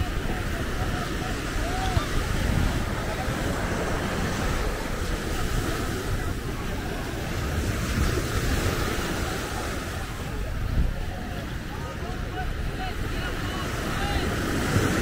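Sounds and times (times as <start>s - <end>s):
ocean surf on beach: 0.0s - 15.0s
wind rumbling on microphone: 0.0s - 15.0s.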